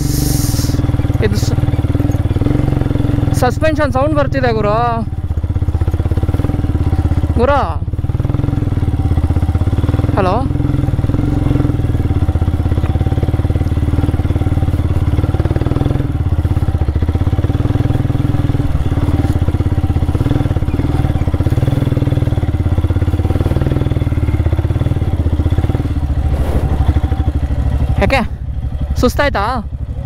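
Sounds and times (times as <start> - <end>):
motorcycle engine at low revs: 0.0 - 30.0.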